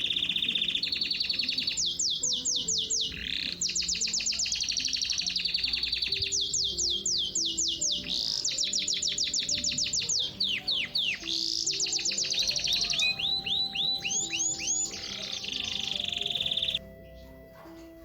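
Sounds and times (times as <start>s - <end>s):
soft background music: 0.0s - 18.0s
songbird singing: 0.0s - 18.0s.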